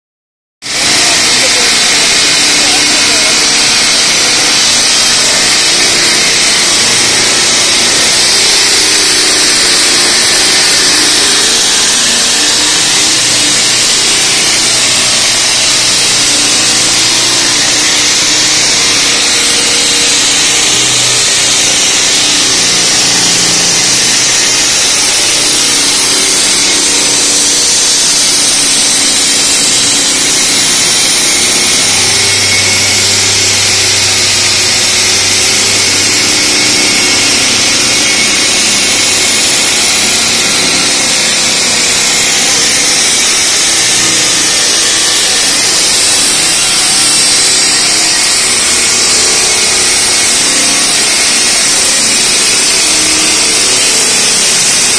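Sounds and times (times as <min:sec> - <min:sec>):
concrete saw high-pitched hiss: 0:00.6 - 0:54.9
saw motor hum: 0:00.6 - 0:54.9.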